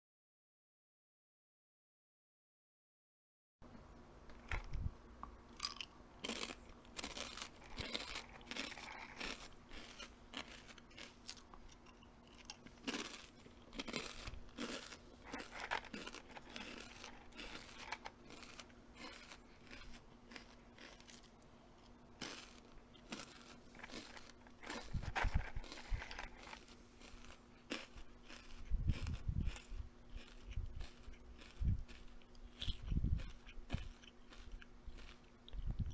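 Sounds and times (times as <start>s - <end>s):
faint steady hum: 3.6s - 35.9s
crisp crunching and chewing: 5.5s - 35.9s.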